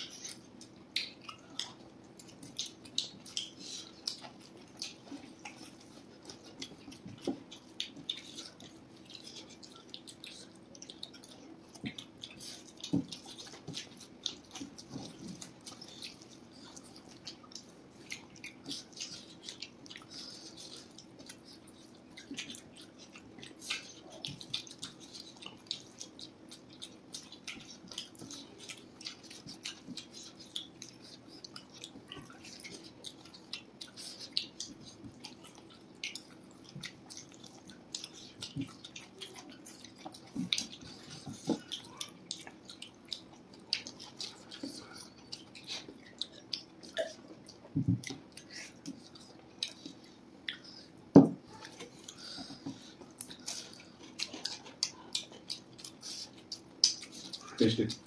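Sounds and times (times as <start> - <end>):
faint steady hum: 0.0 - 58.0
wet chewing and lip smacks: 0.0 - 58.0.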